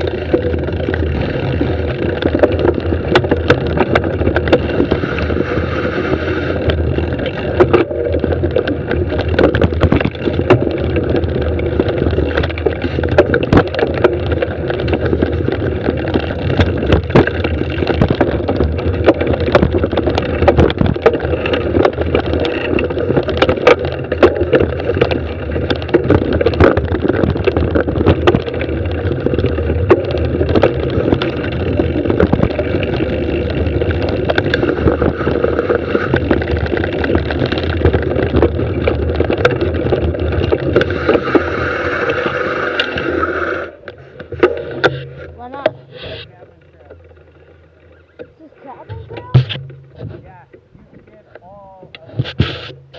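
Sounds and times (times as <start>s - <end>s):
bike rattling over bumps: 0.0s - 52.9s
bike tyres rumbling on dirt: 0.0s - 52.9s.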